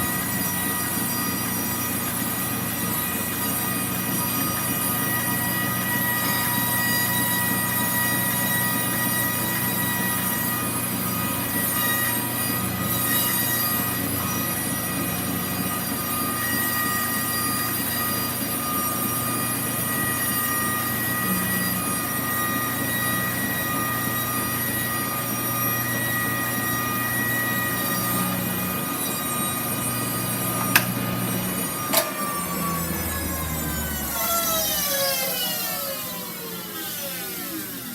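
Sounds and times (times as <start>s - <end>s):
shrill metallic squeal: 0.0s - 37.0s.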